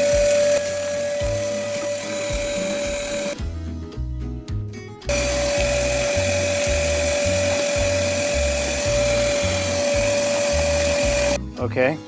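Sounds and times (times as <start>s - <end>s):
shop vacuum whining: 0.0s - 3.4s, 5.1s - 11.4s
background music with bass line: 0.0s - 12.0s.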